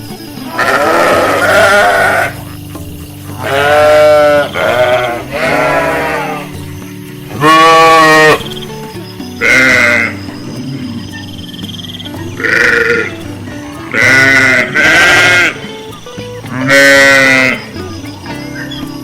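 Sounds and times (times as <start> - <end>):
background music: 0.0 - 19.0
sheep bleating: 0.4 - 8.6, 9.4 - 11.4, 12.1 - 18.0.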